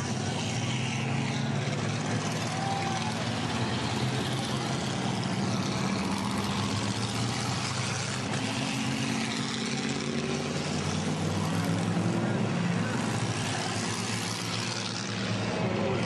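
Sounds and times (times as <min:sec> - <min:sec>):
race car engines passing: 0:00.0 - 0:16.0.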